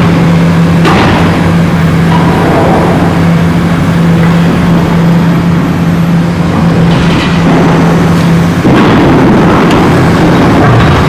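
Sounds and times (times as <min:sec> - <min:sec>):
constant low hum: 0:00.0 - 0:11.0
excavator diesel engine rumbling: 0:00.0 - 0:11.0.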